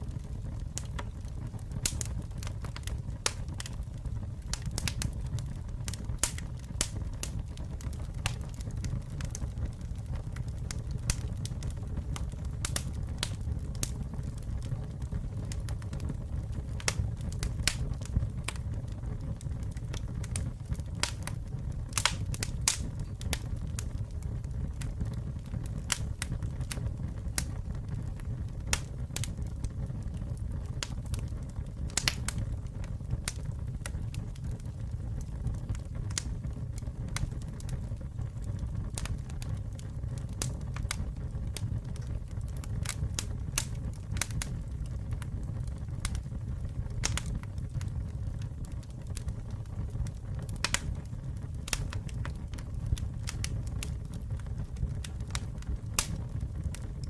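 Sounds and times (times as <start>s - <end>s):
campfire flames rumbling: 0.0s - 57.0s
wood crackling and popping: 0.0s - 57.0s.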